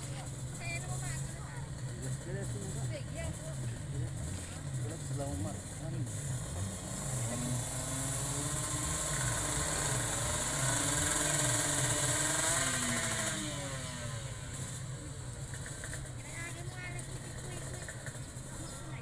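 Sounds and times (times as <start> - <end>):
two-stroke motorcycle passing: 0.0 - 19.0.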